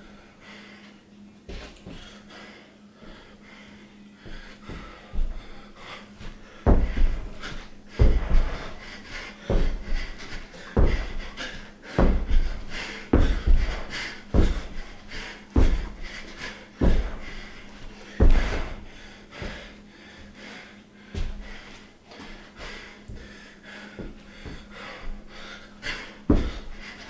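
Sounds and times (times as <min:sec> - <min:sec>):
person breathing heavily: 0:00.0 - 0:27.0.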